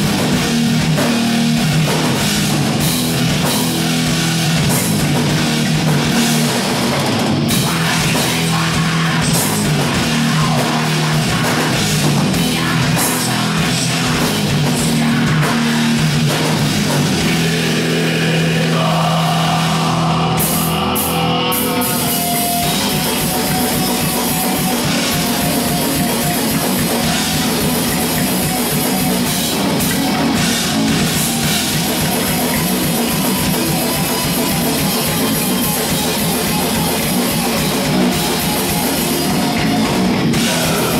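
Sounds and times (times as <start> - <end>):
fast pounding drums: 0.0 - 40.9
lead guitar line: 0.0 - 40.9
metal band playing: 0.0 - 40.9.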